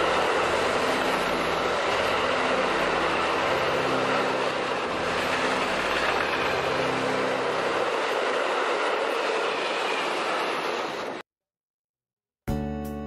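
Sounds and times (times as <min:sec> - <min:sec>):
freight train wagons rumbling: 0:00.0 - 0:11.2.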